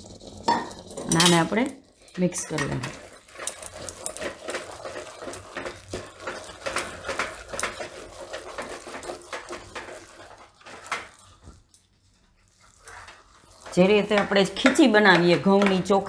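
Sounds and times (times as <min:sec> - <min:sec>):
stirrer knocking on pot: 0:00.0 - 0:11.7, 0:12.6 - 0:16.0
wooden stirrer scraping thick dough: 0:00.0 - 0:16.0.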